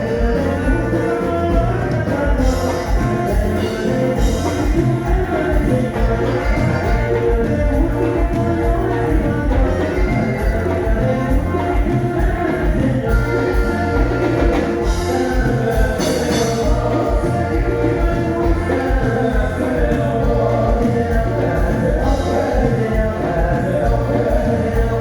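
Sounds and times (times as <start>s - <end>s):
band music with singing: 0.0s - 25.0s
steady drum beat: 0.0s - 25.0s.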